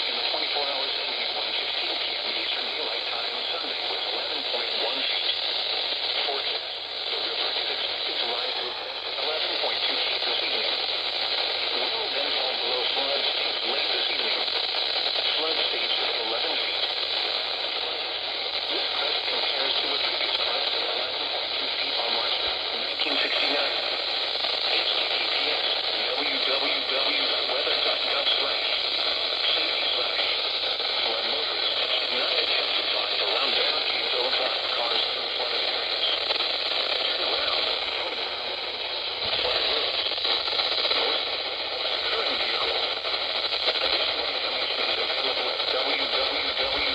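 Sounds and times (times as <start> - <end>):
faint voice reading: 0.0 - 5.4, 6.0 - 46.9
radio static hiss: 0.0 - 46.9.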